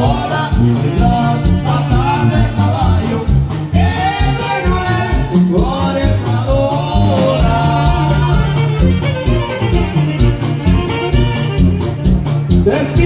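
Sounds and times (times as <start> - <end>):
bass notes: 0.0 - 13.0
live dance music: 0.0 - 13.0
steady drum beat: 0.0 - 13.0
gliding lead melody: 0.8 - 12.9.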